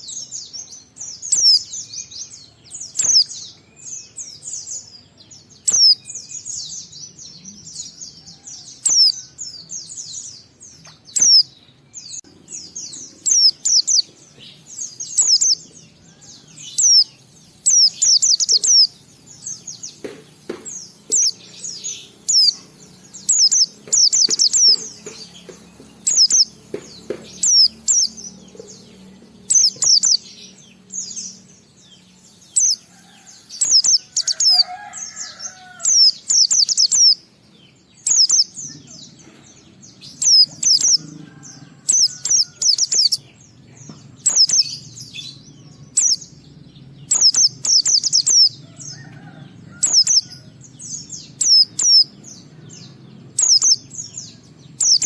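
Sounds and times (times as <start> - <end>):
bird chirping high-pitched: 0.0 - 41.1, 41.8 - 48.6, 49.8 - 50.3, 50.9 - 55.0.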